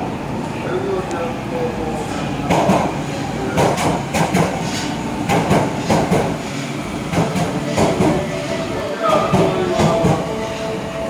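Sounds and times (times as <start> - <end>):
subway train humming: 0.0 - 11.0.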